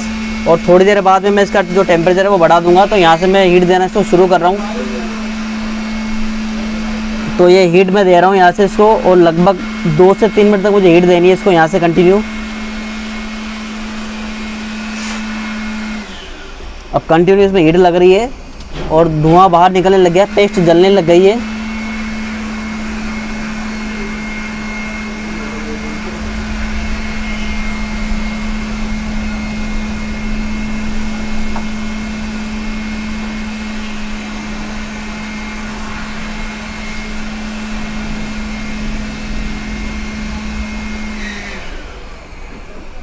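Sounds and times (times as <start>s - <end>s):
faint high whine: 0.0s - 43.0s
hot air station fan hiss: 0.0s - 43.0s
low hum: 0.0s - 43.0s.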